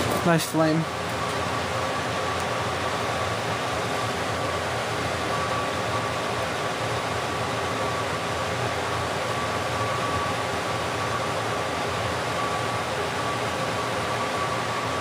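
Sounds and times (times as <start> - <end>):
faint constant whine: 0.0 - 15.0
fan-like hiss: 0.0 - 15.0.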